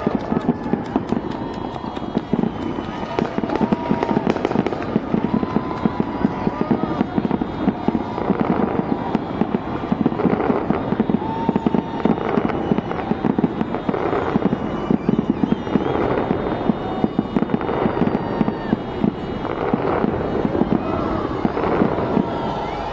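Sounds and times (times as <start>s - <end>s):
fireworks booming and crackling: 0.0s - 22.9s.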